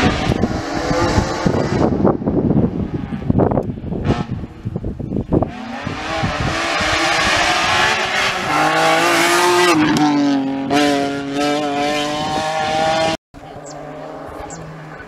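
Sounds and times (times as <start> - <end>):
rally car engine revving: 0.0 - 4.6, 5.4 - 15.0
wind buffeting microphone: 0.0 - 15.0.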